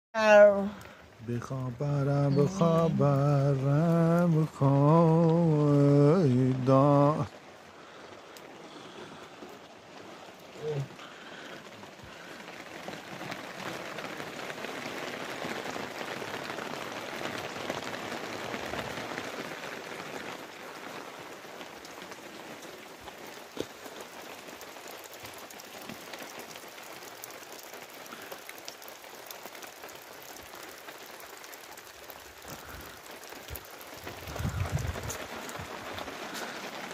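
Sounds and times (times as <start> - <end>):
rain pattering: 0.2 - 36.9.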